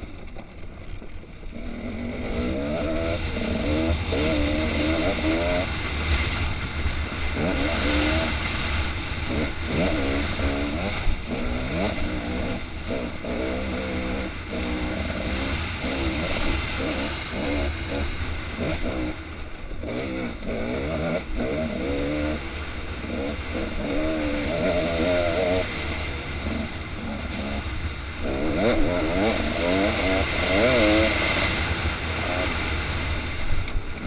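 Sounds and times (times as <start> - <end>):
dirt bike engine revving: 1.4 - 34.0.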